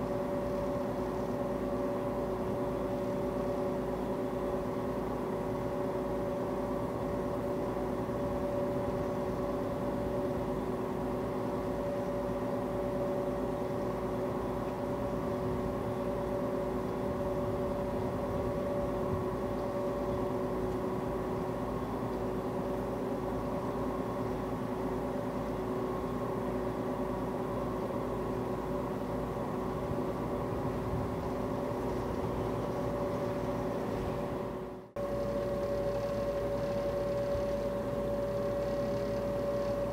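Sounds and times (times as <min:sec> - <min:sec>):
steady whining tones: 0:00.0 - 0:27.1, 0:28.1 - 0:39.9
ferry machinery drone: 0:00.0 - 0:39.9.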